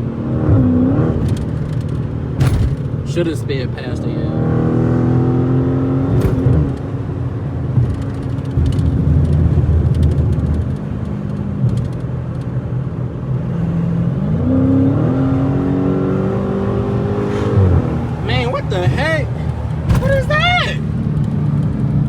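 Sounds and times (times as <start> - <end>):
car exhaust while driving: 0.0 - 3.4, 4.3 - 22.0.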